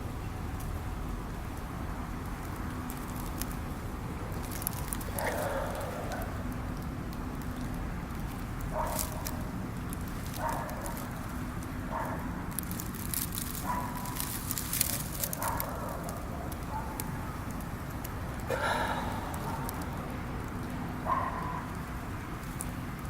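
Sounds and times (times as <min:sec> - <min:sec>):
campfire crackling and popping: 0:01.6 - 0:23.0.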